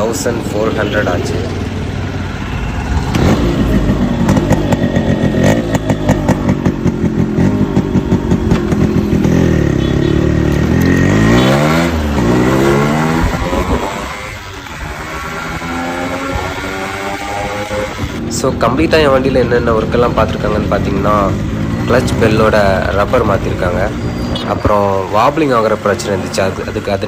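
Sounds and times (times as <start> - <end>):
two-stroke engine revving: 0.0 - 27.0.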